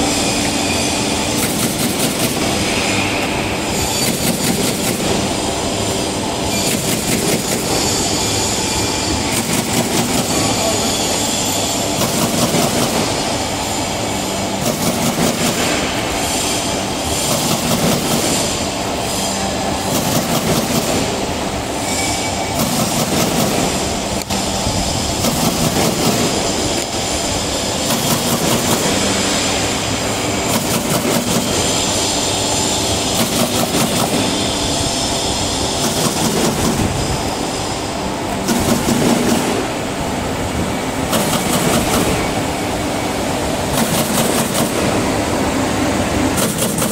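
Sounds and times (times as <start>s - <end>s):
machine mechanical clatter: 0.1s - 37.7s, 38.3s - 39.7s, 41.0s - 42.6s, 43.6s - 45.1s, 46.2s - 46.9s.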